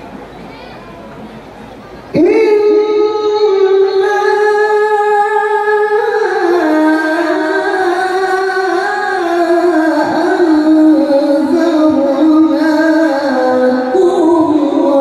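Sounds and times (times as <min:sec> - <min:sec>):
man reciting melodically into microphone: 0:02.1 - 0:15.0.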